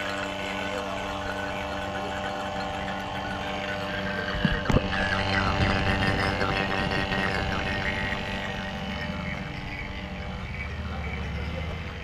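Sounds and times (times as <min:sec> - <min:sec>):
vacuum pump humming: 0:00.0 - 0:12.0.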